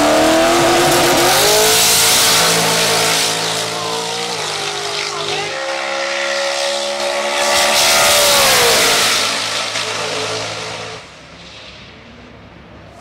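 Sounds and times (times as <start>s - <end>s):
drag car engine at high revs: 0.0s - 11.2s.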